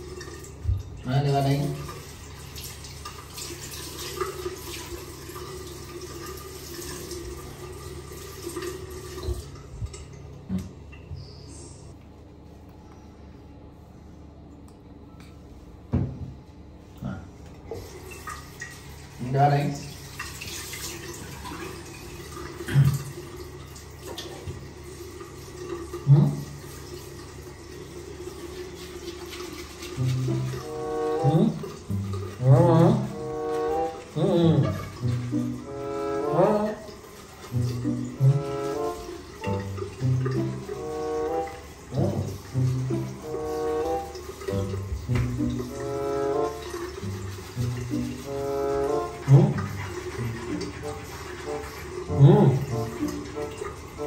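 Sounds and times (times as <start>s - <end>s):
tap water splashing into sink: 0.0s - 11.3s, 15.9s - 16.4s, 17.4s - 54.0s.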